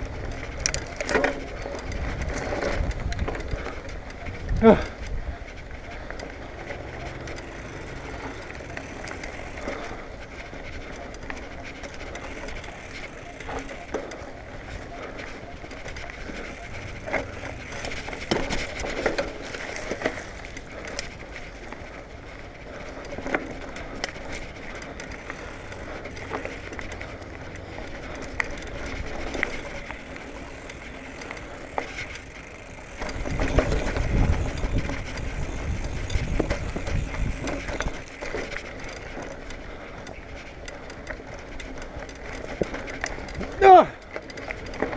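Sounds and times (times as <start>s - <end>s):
bike frame rattling: 0.0s - 44.9s
bike tyres rolling on dirt: 0.0s - 44.9s
freewheel ticking: 0.0s - 44.9s.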